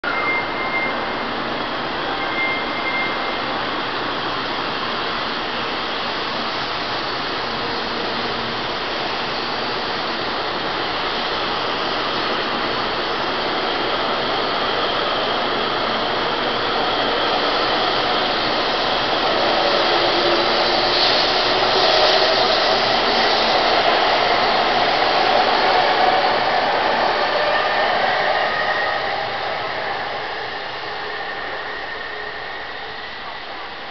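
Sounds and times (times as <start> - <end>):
train running and air noise: 0.0 - 33.9.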